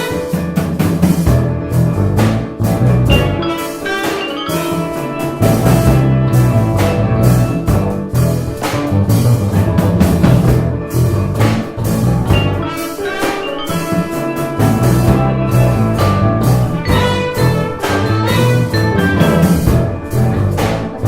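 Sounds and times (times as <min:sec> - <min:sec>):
drum kit: 0:00.0 - 0:21.0
steel pan: 0:00.0 - 0:21.0
low bass notes: 0:01.2 - 0:03.6, 0:04.7 - 0:12.9, 0:13.8 - 0:21.0.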